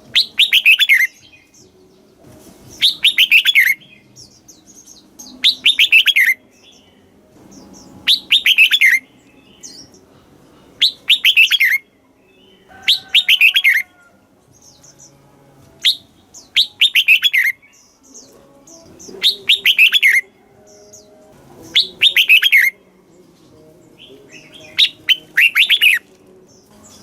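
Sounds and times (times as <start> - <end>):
bird whistling song: 0.0 - 10.1, 10.8 - 14.0, 15.8 - 27.0
soft bird chirps: 0.0 - 15.2, 15.8 - 27.0.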